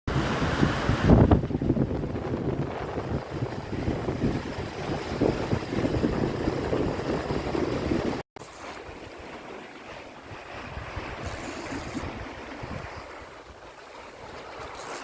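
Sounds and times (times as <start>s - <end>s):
wind buffeting microphone: 0.1s - 8.2s, 10.2s - 14.4s
ocean waves rushing: 0.1s - 15.0s.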